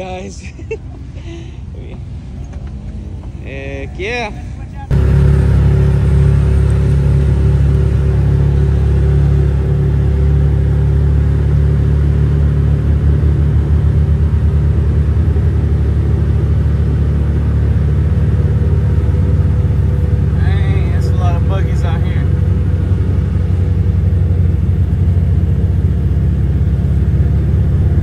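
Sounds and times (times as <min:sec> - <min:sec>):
off-road vehicle engine rumble: 0:00.0 - 0:28.0.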